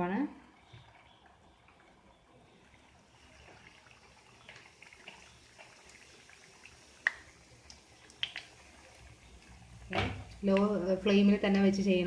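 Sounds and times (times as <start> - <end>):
pastries frying in oil: 0.0 - 12.0.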